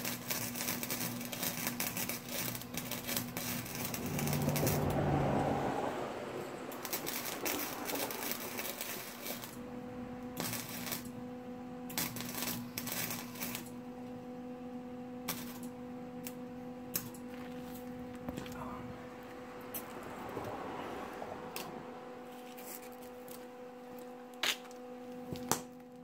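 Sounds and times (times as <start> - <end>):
welder crackling: 0.0 - 26.0
steady low hum: 0.3 - 26.0.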